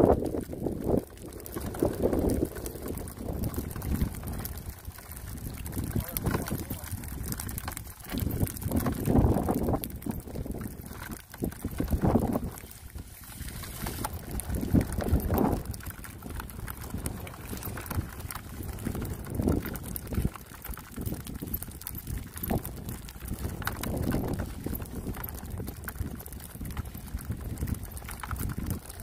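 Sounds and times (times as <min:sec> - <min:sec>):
wind buffeting microphone: 0:00.0 - 0:29.0
faint ticks: 0:00.1 - 0:29.0.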